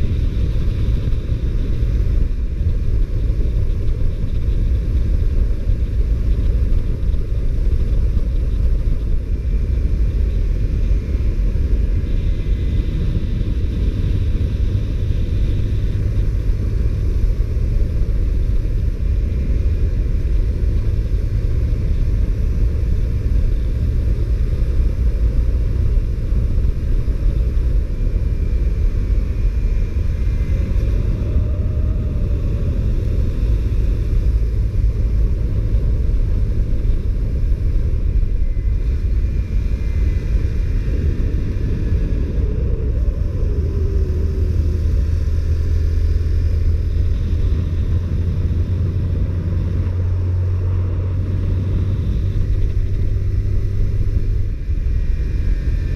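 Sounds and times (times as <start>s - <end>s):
low rumble of riding wind: 0.0s - 55.9s
motorcycle engine running: 0.0s - 55.9s.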